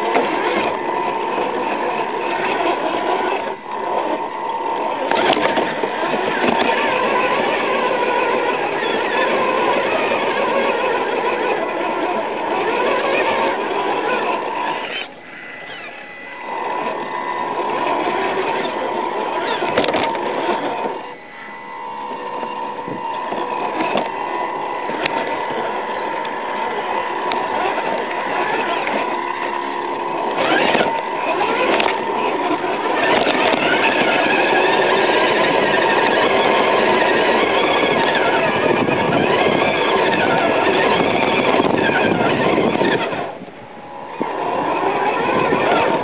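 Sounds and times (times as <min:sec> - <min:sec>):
electric motors whining: 0:00.0 - 0:46.0.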